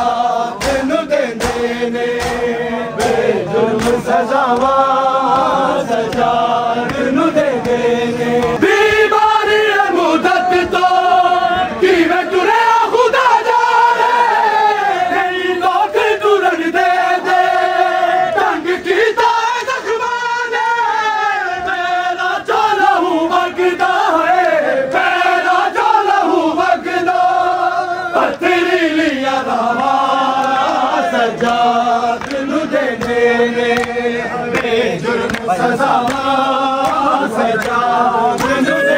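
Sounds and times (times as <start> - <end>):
men chanting in unison: 0.0 - 38.9.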